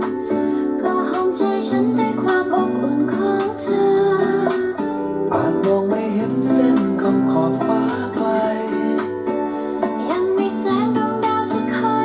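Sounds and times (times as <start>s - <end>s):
guitar melody with accompaniment: 0.0s - 12.0s.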